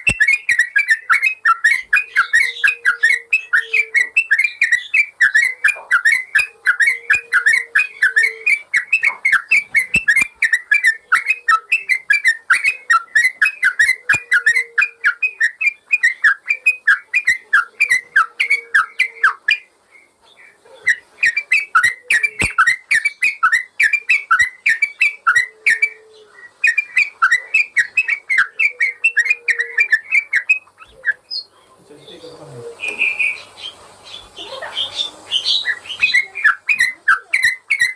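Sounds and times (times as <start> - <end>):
bird chirping rapidly: 0.0 - 20.2, 20.8 - 37.9.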